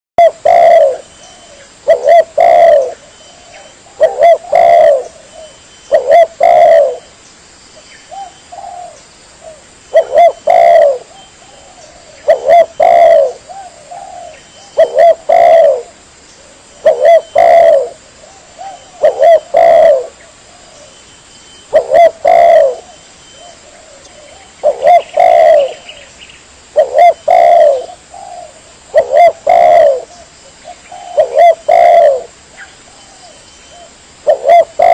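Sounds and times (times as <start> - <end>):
dove cooing: 0.2 - 7.1, 8.1 - 21.0, 21.6 - 26.1, 26.7 - 34.9.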